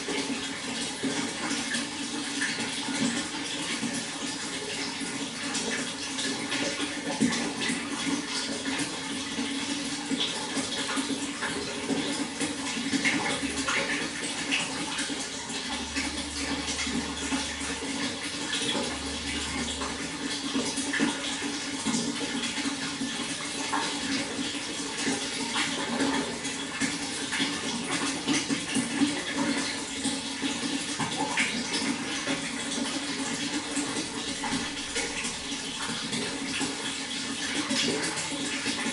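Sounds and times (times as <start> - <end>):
water flowing and splashing: 0.0 - 38.9.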